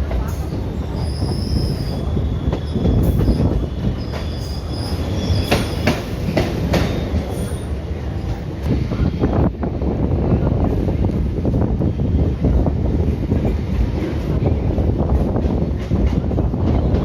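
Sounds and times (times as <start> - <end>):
train coach rumbling on track: 0.0 - 17.0.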